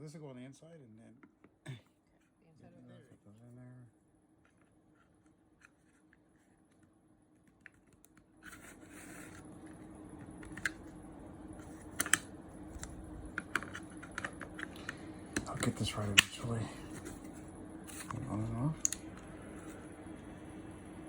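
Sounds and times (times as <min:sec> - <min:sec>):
fan humming with airy hiss: 0:00.0 - 0:07.5, 0:08.2 - 0:21.0.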